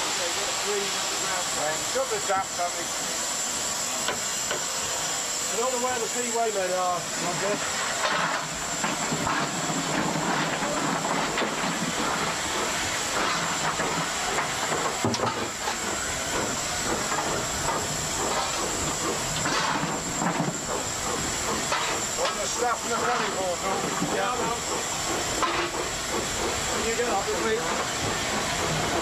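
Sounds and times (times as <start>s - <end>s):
steam locomotive hissing steam: 0.0s - 29.0s.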